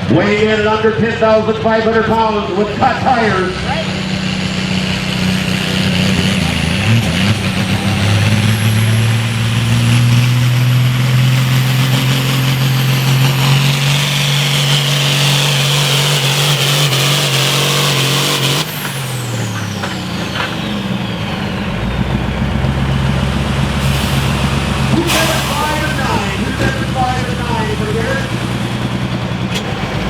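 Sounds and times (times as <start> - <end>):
tractor diesel engine under load: 0.0 - 30.0
turbo whine: 2.3 - 29.4.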